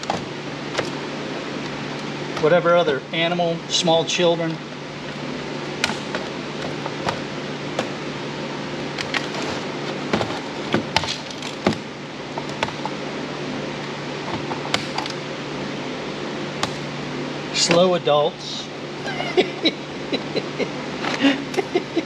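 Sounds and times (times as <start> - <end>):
fan-like hum and hiss: 0.0 - 22.0.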